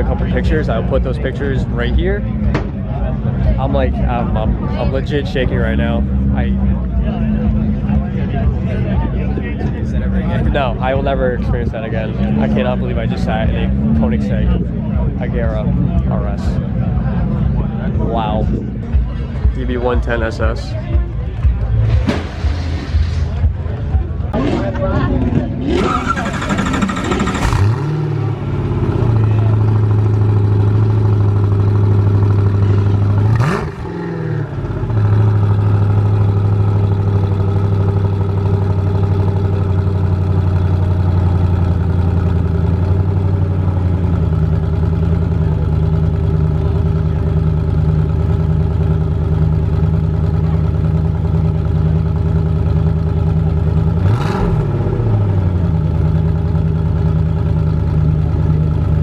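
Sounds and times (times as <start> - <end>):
car engine idling: 0.0 - 59.0
engine throttle blips: 0.0 - 59.0.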